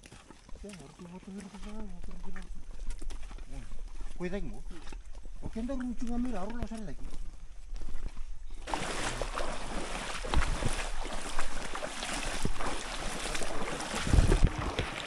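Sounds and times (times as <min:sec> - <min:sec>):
footsteps crunching on stony path: 0:00.0 - 0:15.0.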